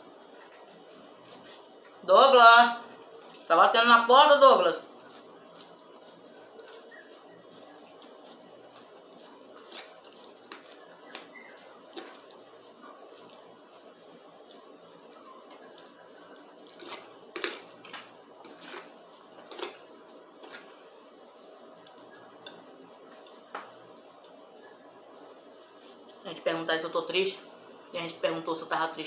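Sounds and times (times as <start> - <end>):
faint steady hum: 0.0 - 29.0
chewing spaghetti: 2.8 - 26.2.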